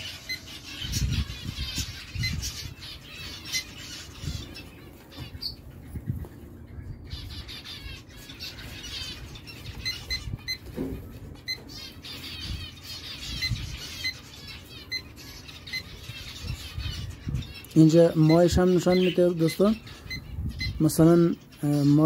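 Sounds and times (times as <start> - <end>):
small birds chirping and twittering: 0.0 - 22.0.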